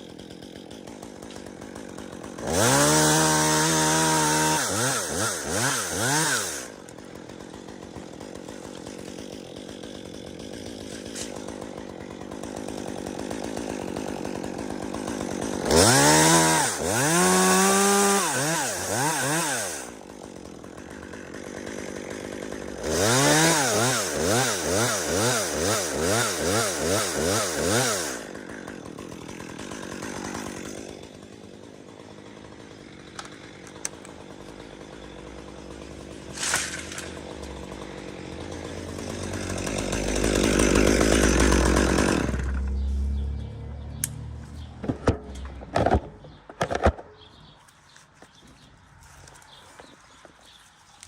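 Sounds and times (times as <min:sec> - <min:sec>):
chainsaw revving: 0:00.0 - 0:46.7.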